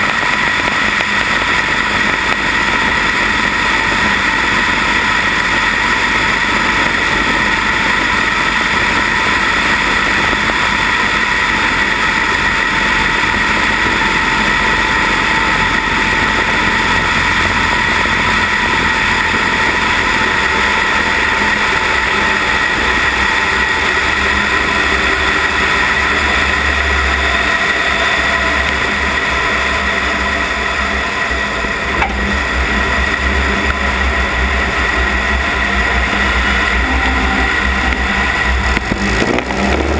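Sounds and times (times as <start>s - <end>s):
low rumble: 0.0s - 39.9s
propeller plane engine droning: 0.0s - 39.9s.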